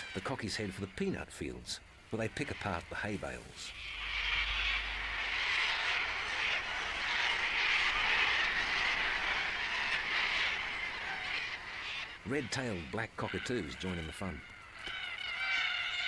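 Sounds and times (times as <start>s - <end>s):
cockatoos screeching: 0.0s - 1.0s, 2.2s - 16.0s.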